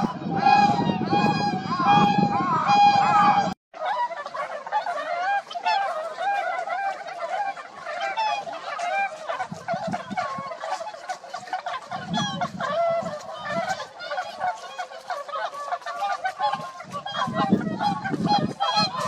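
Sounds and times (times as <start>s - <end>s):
geese gabbling: 0.0s - 19.0s.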